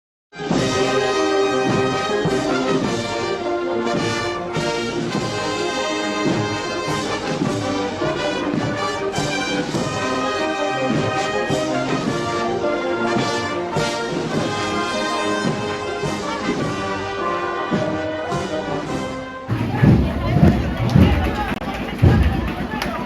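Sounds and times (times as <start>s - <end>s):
brass band playing a march: 0.4s - 23.0s.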